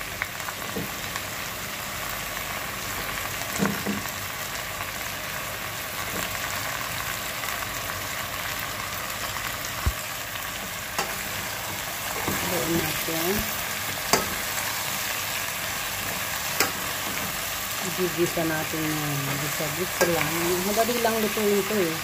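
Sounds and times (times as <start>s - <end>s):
food sizzling in a pot: 0.0s - 22.0s.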